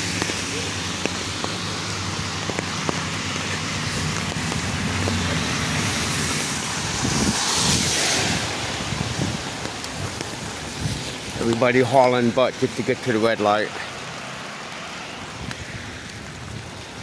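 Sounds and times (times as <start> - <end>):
car passing: 0.0 - 17.0
tyres hissing on wet road: 0.0 - 17.0.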